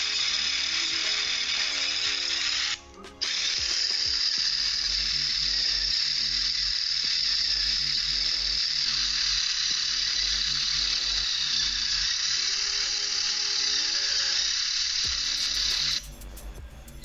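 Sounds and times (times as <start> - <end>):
small electric motor whirring: 0.0 - 17.0.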